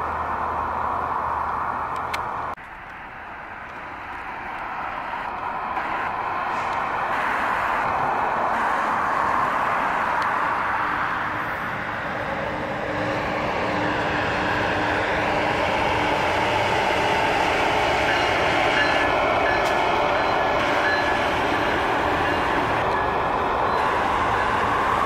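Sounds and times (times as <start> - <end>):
train passing by rumbling: 0.0 - 25.0.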